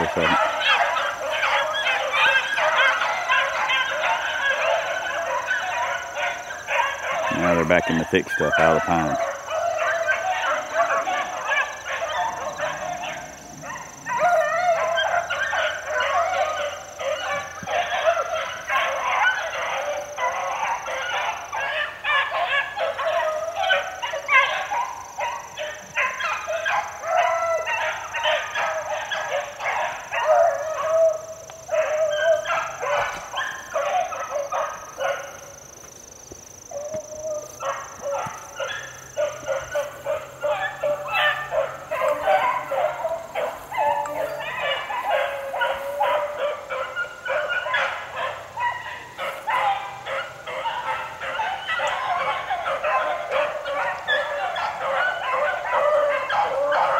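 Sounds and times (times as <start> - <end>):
pack of dogs baying: 0.0 - 56.9.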